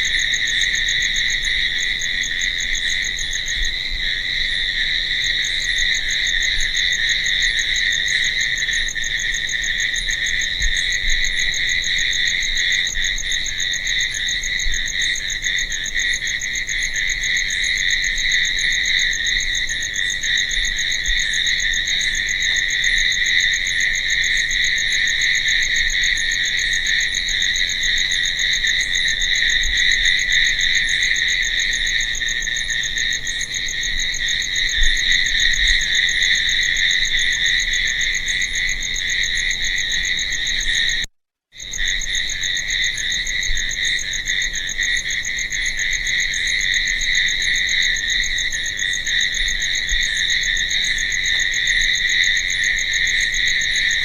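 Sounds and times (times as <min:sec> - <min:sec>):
crickets trilling: 0:00.0 - 0:54.0
fast pulsing cricket chirp: 0:00.0 - 0:54.0.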